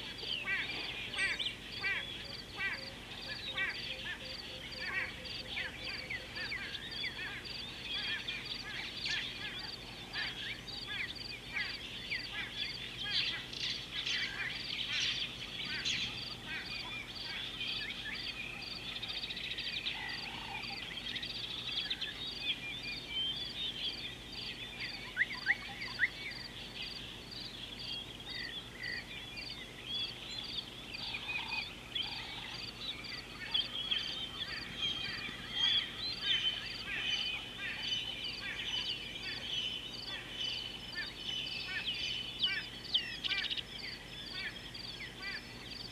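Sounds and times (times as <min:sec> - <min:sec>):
wild birds chirping and whistling: 0:00.0 - 0:45.9.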